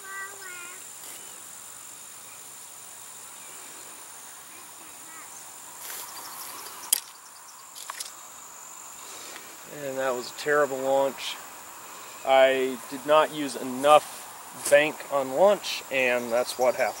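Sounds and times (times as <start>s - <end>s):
crickets shrilling: 0.0s - 17.0s.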